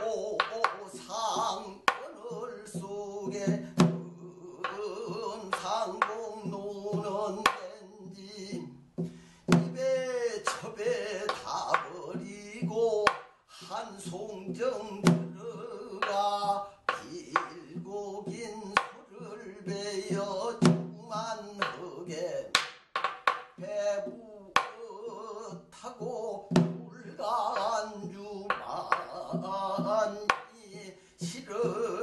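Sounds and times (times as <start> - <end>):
irregular drum strokes: 0.0 - 32.0
melodic singing with vibrato: 0.0 - 32.0.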